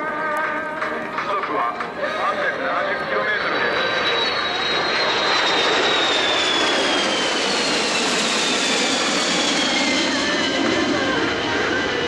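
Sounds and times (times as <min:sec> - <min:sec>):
jet engines passing low: 0:00.0 - 0:12.0.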